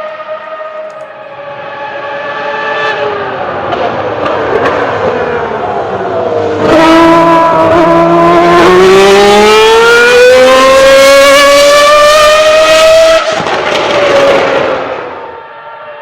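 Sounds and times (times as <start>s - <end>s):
racing car engine at full throttle: 0.0s - 16.0s.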